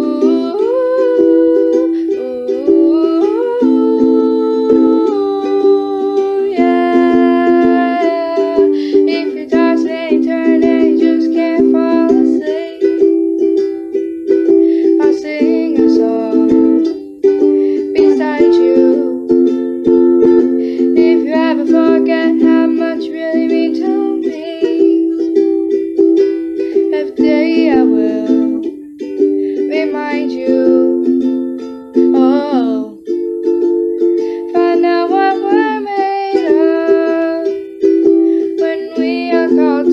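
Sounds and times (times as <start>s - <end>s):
girl singing: 0.0s - 39.9s
ukulele strumming chords: 0.0s - 39.9s.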